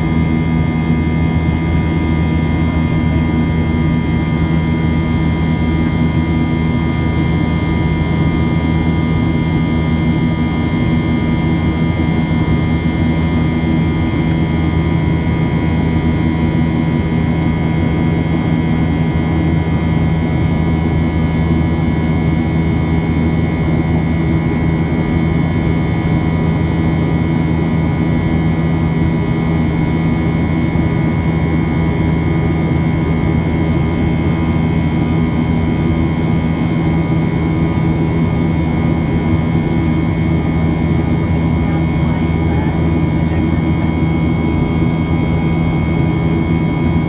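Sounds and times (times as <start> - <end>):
jet engine drone in cabin: 0.0 - 47.0.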